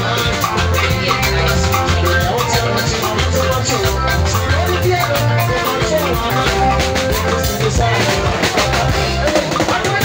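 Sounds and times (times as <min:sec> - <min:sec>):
dance music: 0:00.0 - 0:10.0
pulsing bass line: 0:00.0 - 0:10.0
steady drum beat: 0:00.0 - 0:10.0.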